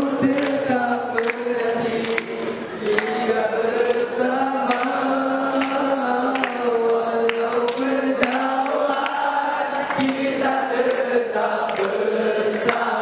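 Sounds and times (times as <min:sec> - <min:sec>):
group singing in unison: 0:00.0 - 0:13.0.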